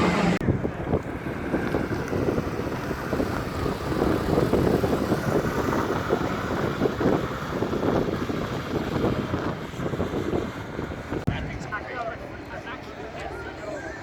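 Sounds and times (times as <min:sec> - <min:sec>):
vehicle rumble: 0:00.0 - 0:14.0
wind buffeting microphone: 0:00.0 - 0:14.0.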